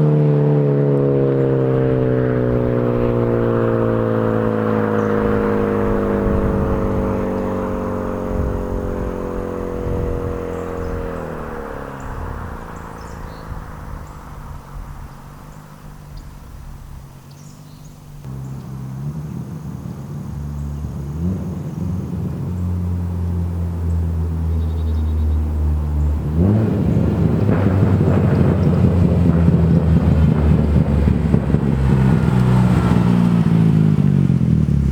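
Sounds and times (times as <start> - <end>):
car engine revving: 0.0 - 34.9
low engine drone: 0.0 - 34.9.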